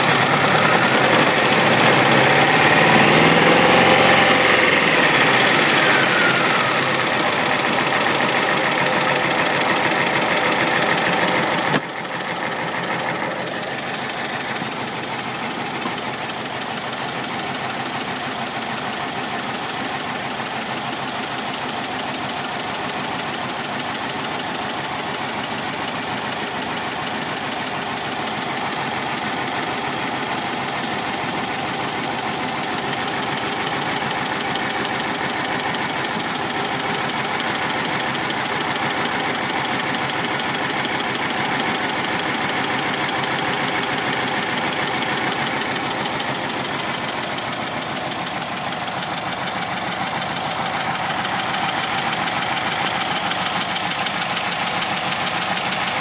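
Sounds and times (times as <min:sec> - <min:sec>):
air-cooled engine idling: 0:00.0 - 0:56.0.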